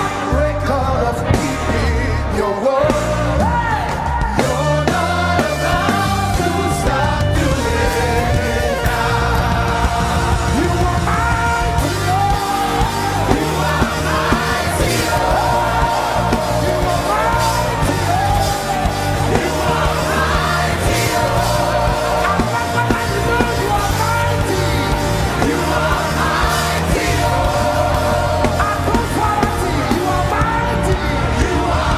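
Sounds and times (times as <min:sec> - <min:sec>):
band playing bass and drums: 0:00.0 - 0:31.9
people singing: 0:00.0 - 0:31.9.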